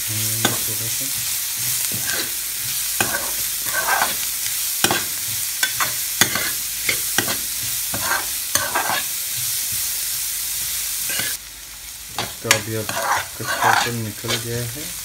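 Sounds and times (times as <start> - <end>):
onions sizzling in oil: 0.0 - 15.0
metal spoon scraping a pan: 0.4 - 9.5, 11.0 - 11.4, 12.1 - 14.6.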